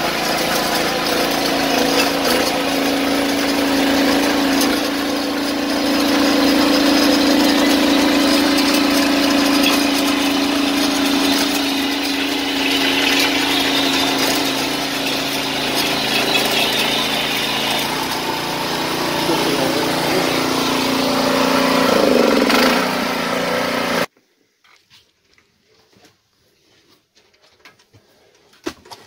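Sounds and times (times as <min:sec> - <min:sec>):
engine running: 0:00.0 - 0:24.1
strong steady hum: 0:00.0 - 0:24.1.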